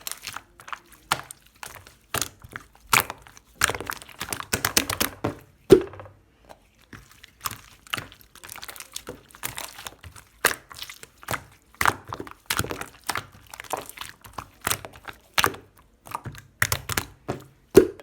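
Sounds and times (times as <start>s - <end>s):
slime squished by hand: 0.0s - 18.0s.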